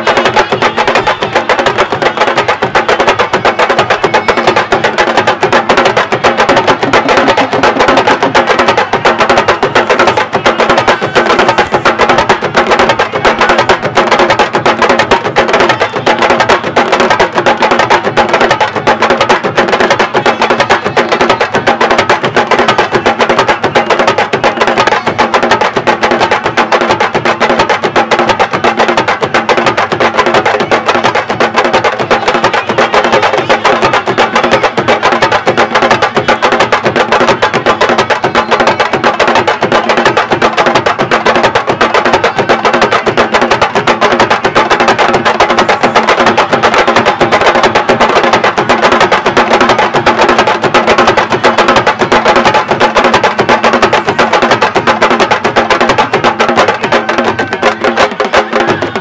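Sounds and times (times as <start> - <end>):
drum ensemble playing: 0.0 - 59.0.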